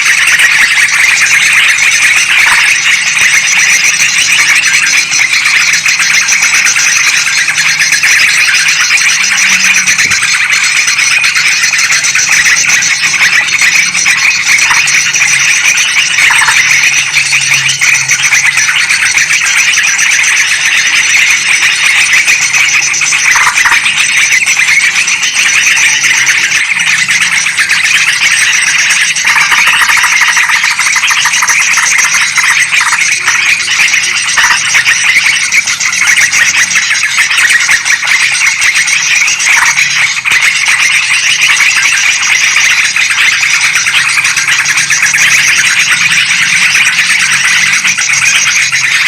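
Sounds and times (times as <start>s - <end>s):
flock of bulbuls chattering: 0.0s - 49.0s.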